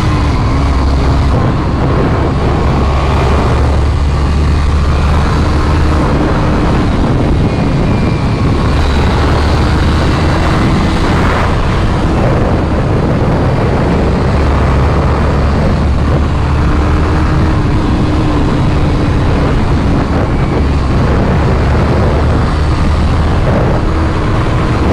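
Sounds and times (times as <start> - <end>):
motorcycle engine hum: 0.0 - 24.9
wind rush on microphone: 0.0 - 24.9.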